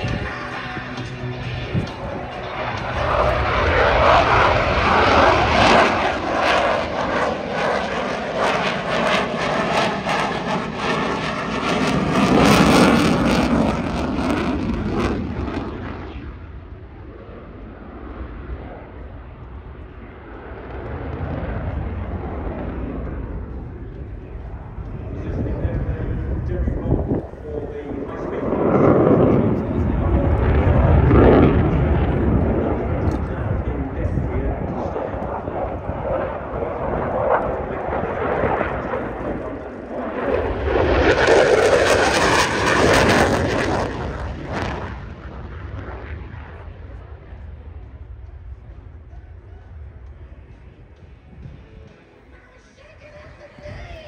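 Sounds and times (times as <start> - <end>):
fighter jet engine in flight: 0.0 - 52.4.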